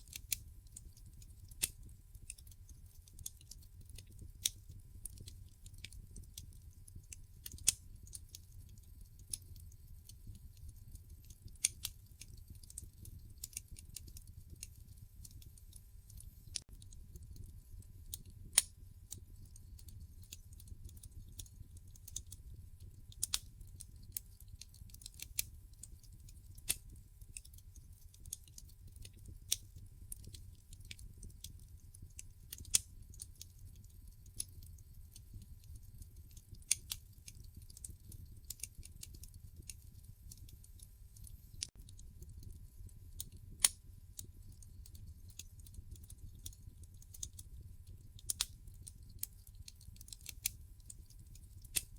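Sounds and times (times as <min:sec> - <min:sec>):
low rumble of flames: 0:00.0 - 0:51.9
wood fire crackling and popping: 0:00.0 - 0:51.9.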